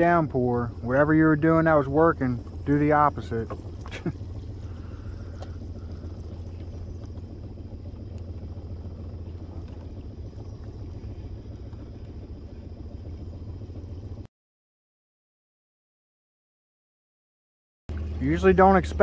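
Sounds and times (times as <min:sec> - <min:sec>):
boat motor humming: 0:00.0 - 0:14.3, 0:17.9 - 0:19.0.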